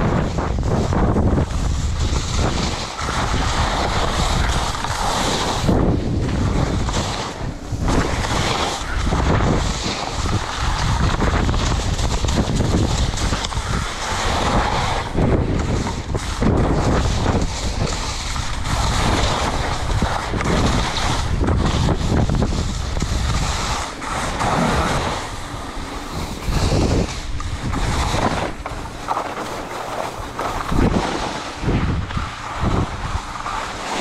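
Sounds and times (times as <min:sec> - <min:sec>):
skis sliding on snow: 0:00.0 - 0:34.0
wind buffeting microphone: 0:00.0 - 0:34.0.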